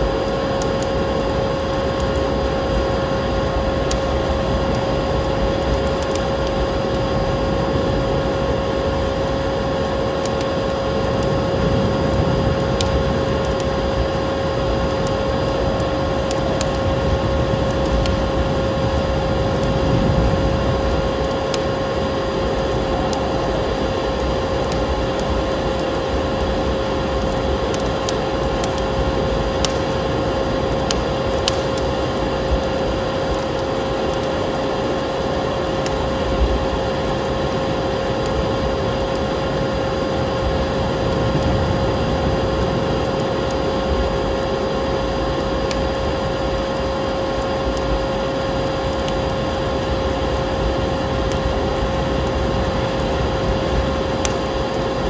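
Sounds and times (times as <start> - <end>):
blizzard wind rumbling: 0.0 - 55.0
wood fire crackling: 0.0 - 55.0.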